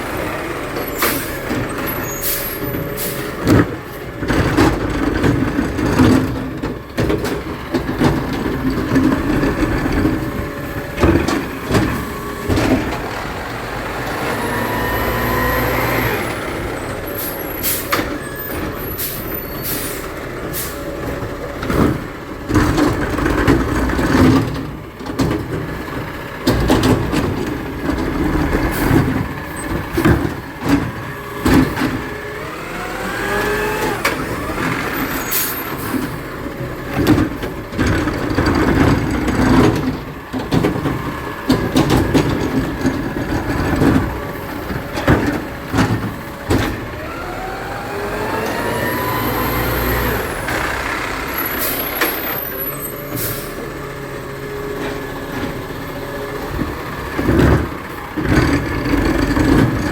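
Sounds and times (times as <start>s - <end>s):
garbage truck engine revving: 0.0s - 59.9s.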